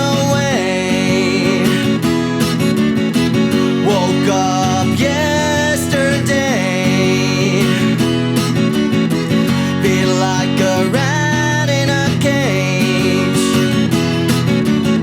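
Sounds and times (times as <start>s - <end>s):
guitar band music: 0.0s - 15.0s.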